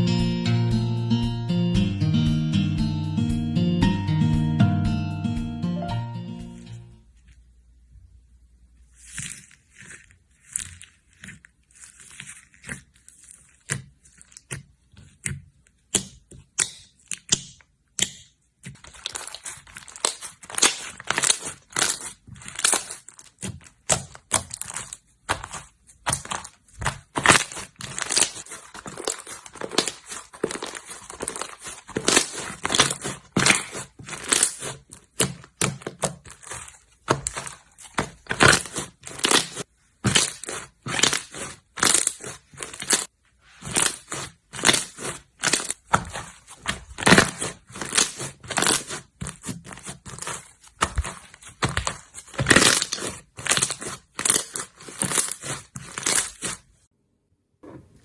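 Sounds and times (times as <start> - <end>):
slime squished by hand: 8.9 - 56.8.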